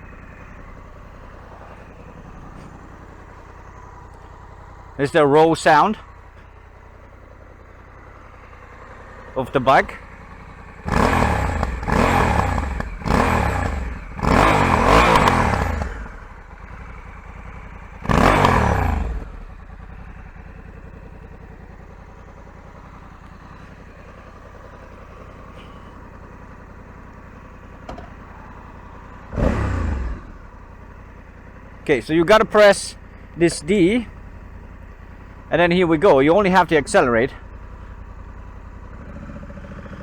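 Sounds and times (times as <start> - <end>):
motorcycle engine idling and revving: 0.0 - 40.0.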